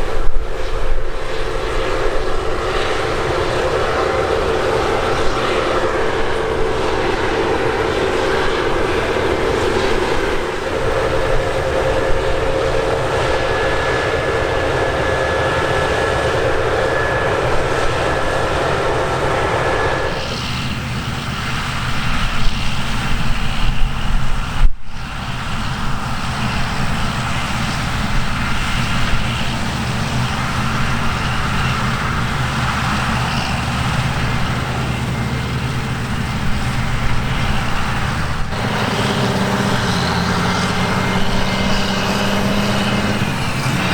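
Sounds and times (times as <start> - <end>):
diesel machinery running: 0.0 - 43.9
steady whine: 0.0 - 43.9.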